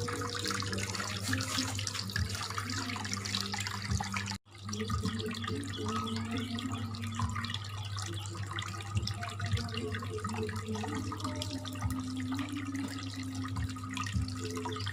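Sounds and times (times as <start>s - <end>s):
fountain water trickling and splashing: 0.0s - 14.9s.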